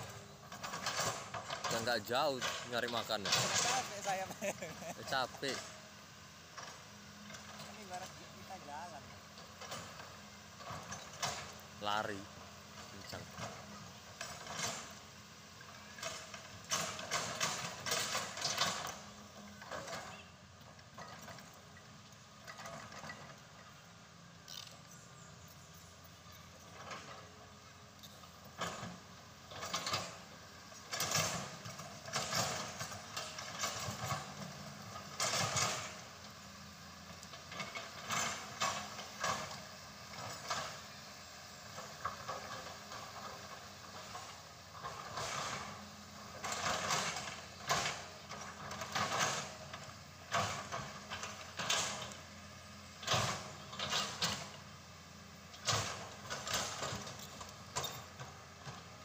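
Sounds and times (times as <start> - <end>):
excavator creaks and clunks: 0.0 - 59.0.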